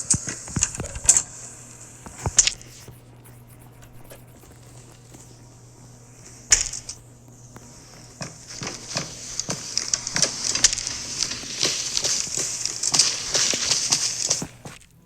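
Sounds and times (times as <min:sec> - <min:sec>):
refrigerator humming: 0:00.0 - 0:15.0.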